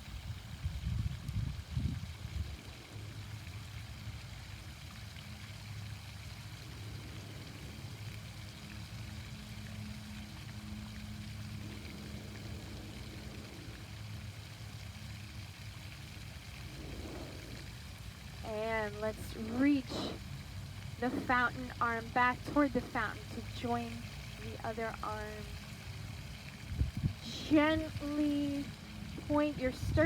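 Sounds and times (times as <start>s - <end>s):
fountain water splashing: 0.0s - 30.0s
low steady hum: 0.0s - 30.0s.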